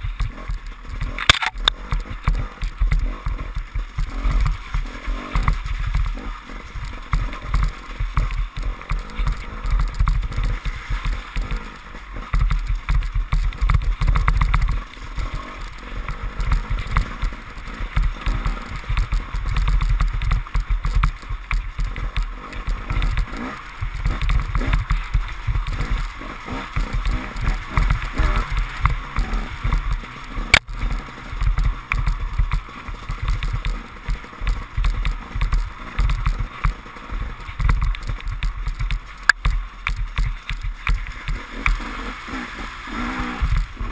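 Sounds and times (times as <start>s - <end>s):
motorcycle engine revving: 0.0s - 43.9s
water splashing under wheels: 0.0s - 43.9s.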